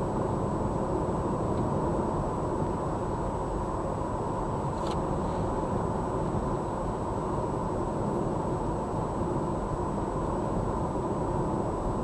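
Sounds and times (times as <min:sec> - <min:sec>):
car cabin road and engine noise: 0:00.0 - 0:12.0.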